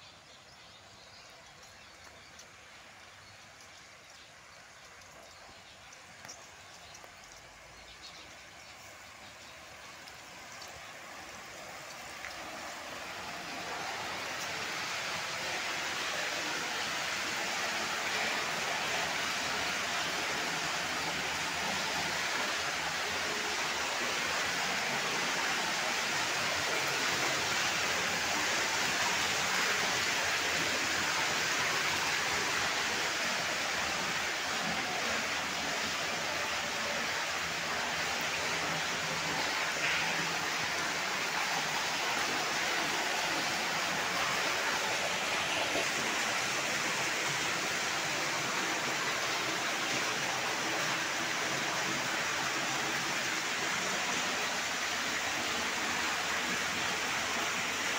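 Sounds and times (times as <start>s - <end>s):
rain falling on pool water: 0.0s - 57.9s.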